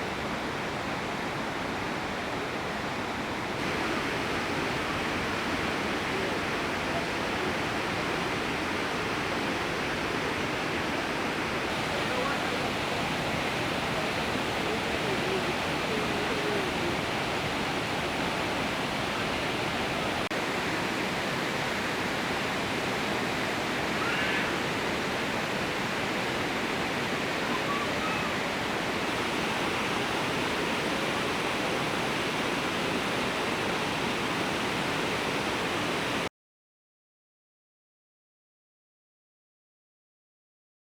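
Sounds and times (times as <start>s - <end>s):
waterfall rushing: 0.3s - 36.3s.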